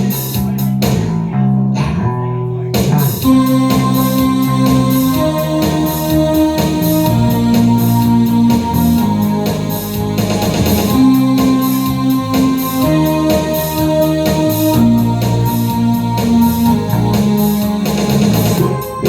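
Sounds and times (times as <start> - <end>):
bass guitar: 0.0 - 19.0
steady drum beat: 2.8 - 19.0
electric keyboard chords: 3.0 - 19.0.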